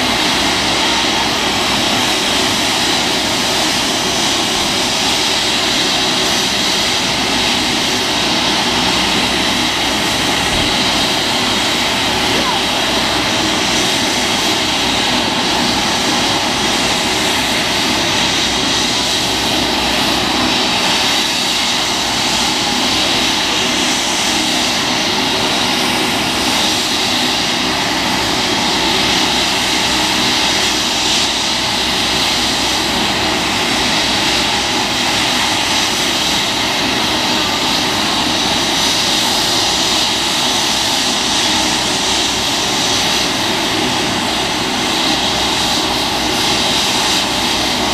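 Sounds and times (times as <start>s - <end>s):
helicopter turbine and rotor: 0.0s - 47.9s.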